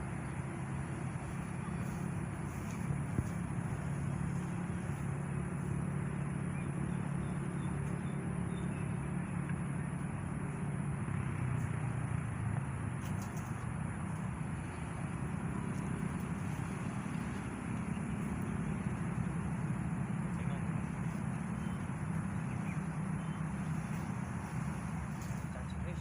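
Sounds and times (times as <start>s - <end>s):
distant road traffic rumble: 0.0s - 26.0s
faint high whine: 0.0s - 26.0s.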